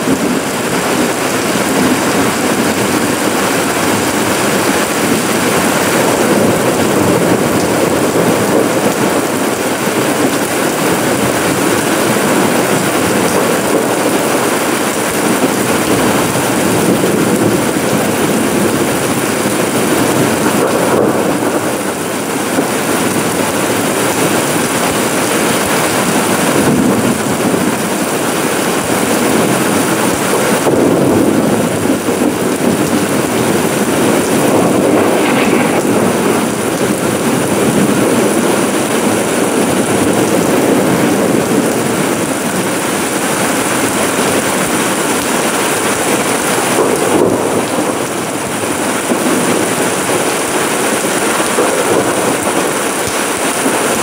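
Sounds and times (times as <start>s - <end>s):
rain on pavement: 0.0s - 54.0s.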